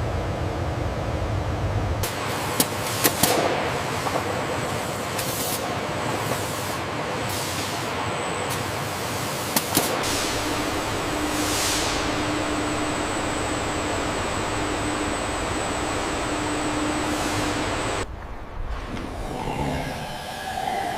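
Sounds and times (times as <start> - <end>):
steady factory hiss: 0.3 - 20.4.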